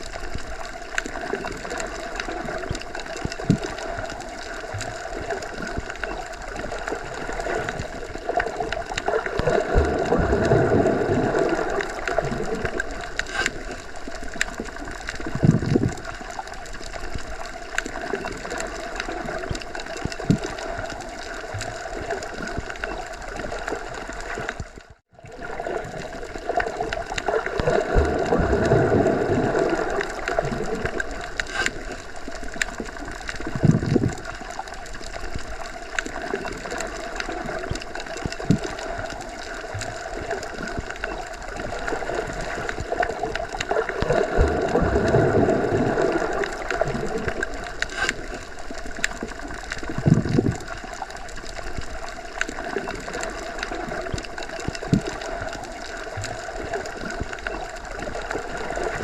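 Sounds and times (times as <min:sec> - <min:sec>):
low gurgles: 0:00.0 - 0:59.0
muffled underwater water rush: 0:00.0 - 0:59.0.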